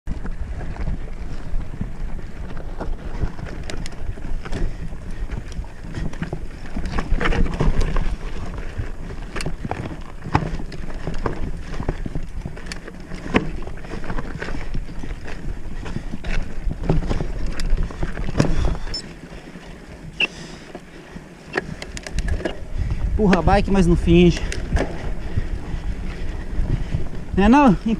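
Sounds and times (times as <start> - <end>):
bike rattling over stones: 0.1 - 27.9
wind buffeting microphone: 0.1 - 27.9.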